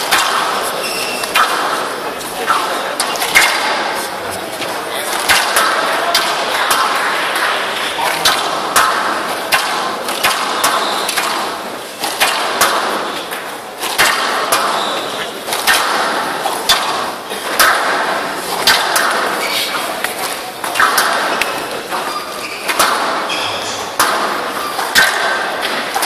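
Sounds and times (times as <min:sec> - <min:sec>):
squash ball cracking off rackets and walls: 0:00.0 - 0:26.0.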